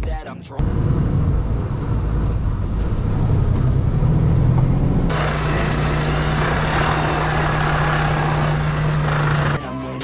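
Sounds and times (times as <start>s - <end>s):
truck diesel engine humming: 0.6s - 9.6s.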